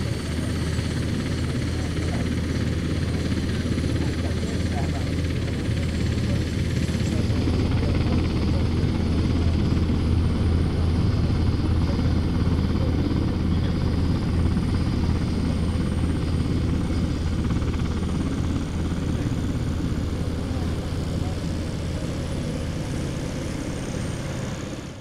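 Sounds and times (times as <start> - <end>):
propeller engine droning: 0.0 - 25.0.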